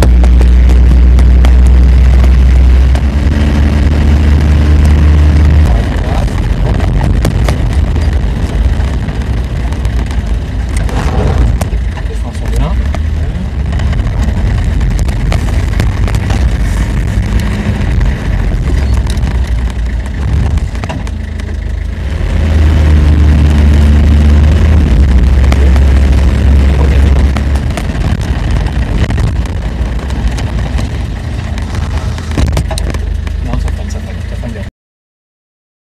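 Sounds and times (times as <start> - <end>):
car engine running: 0.0 - 34.7
road and tyre noise: 0.0 - 34.7.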